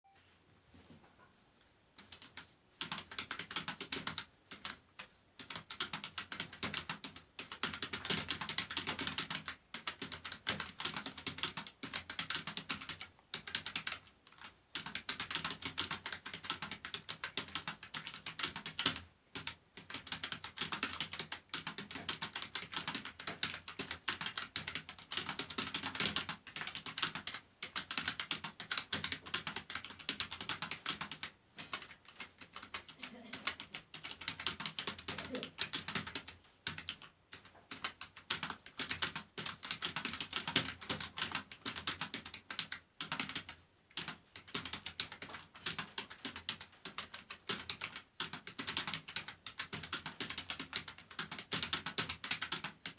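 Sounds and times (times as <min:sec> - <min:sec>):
fast typing on a keyboard: 0:02.0 - 0:52.9.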